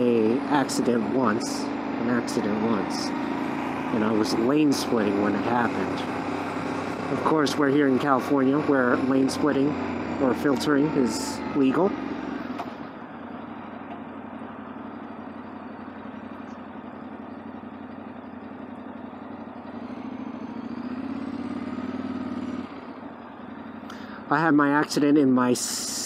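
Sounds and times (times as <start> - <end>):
motorcycle engine at low speed: 0.0 - 26.0
wind and road noise: 0.0 - 26.0.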